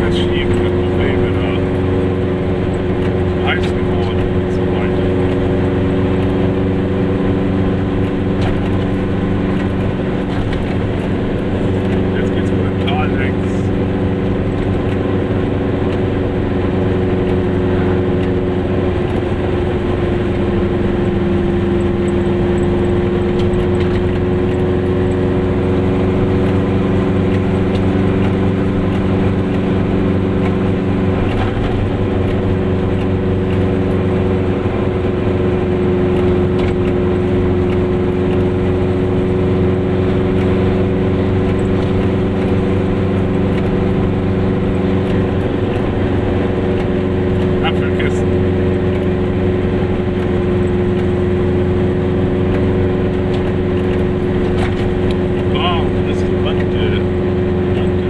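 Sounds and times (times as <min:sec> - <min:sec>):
road noise: 0:00.0 - 0:58.0
two-stroke engine running: 0:00.0 - 0:58.0.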